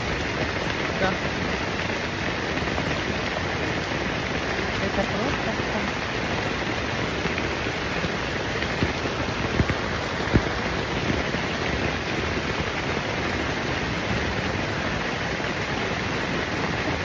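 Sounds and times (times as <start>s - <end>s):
rain on a tent: 0.0s - 17.0s.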